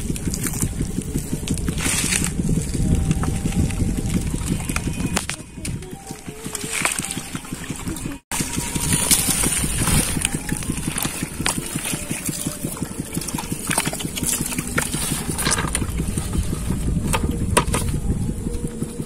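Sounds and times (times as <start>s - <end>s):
fluttering low rumble: 0.0s - 19.0s.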